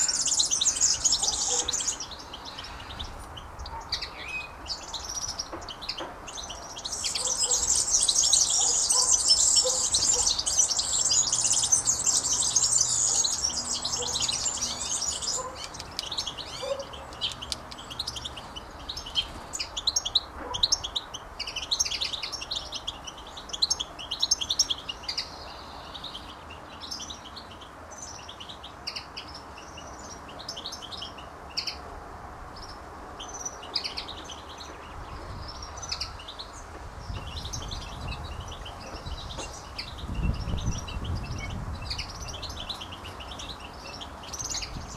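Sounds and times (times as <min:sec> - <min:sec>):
small birds chirping: 0:00.0 - 0:31.9, 0:32.5 - 0:44.9.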